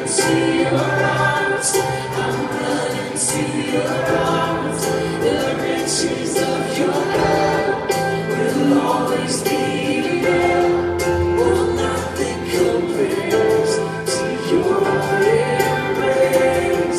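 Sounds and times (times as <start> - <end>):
people singing along: 0.0 - 16.9
worship band playing: 0.0 - 16.9.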